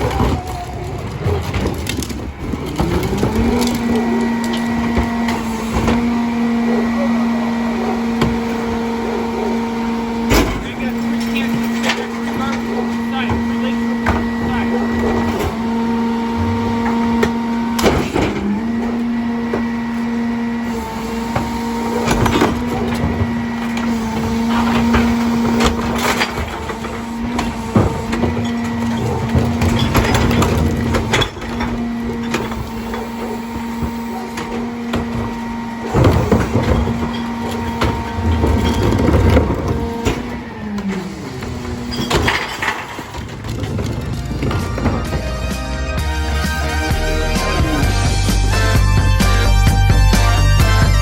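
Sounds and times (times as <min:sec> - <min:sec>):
garbage truck engine humming: 0:00.0 - 0:51.0
metallic clanks and bangs: 0:00.0 - 0:51.0.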